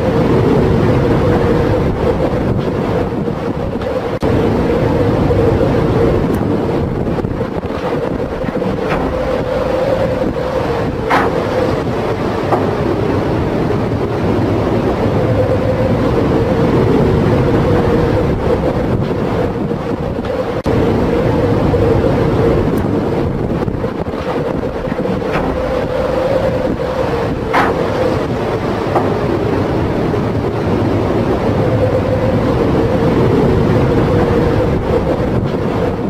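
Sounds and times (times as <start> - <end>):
constant low drone: 0.0 - 36.0
heavy seas rushing and rumbling: 0.0 - 36.0
storm wind: 0.0 - 36.0
waves knocking against bow: 0.0 - 36.0.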